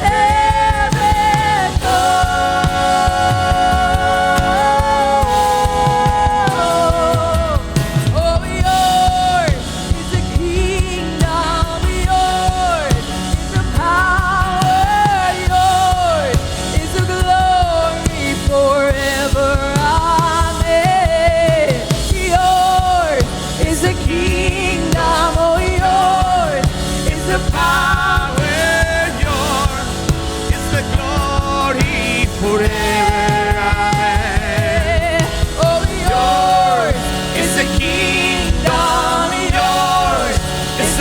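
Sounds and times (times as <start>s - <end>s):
band playing: 0.0s - 41.0s
person singing long notes: 0.0s - 41.0s
steady drum beat: 0.0s - 41.0s.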